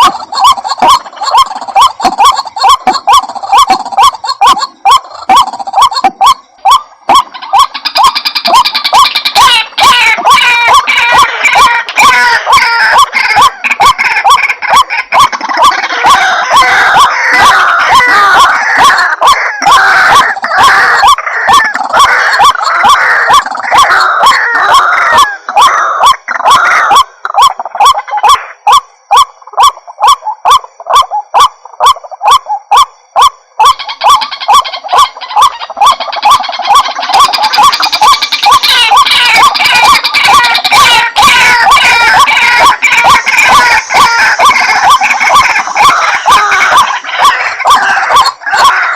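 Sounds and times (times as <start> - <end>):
waterhen calling: 0.0 - 28.8, 33.6 - 48.9.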